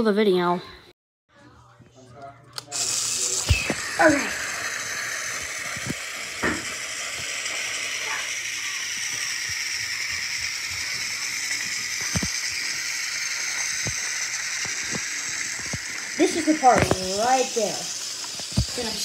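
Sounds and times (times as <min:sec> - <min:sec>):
toy train motor whirring: 0:02.6 - 0:19.0.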